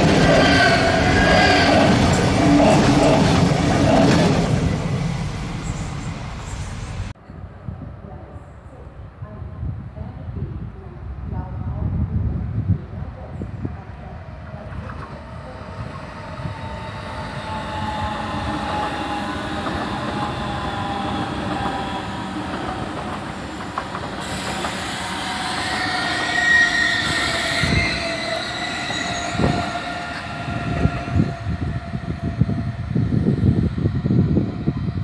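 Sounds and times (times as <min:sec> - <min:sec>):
train rolling rumble: 0:00.0 - 0:07.2, 0:09.2 - 0:35.0.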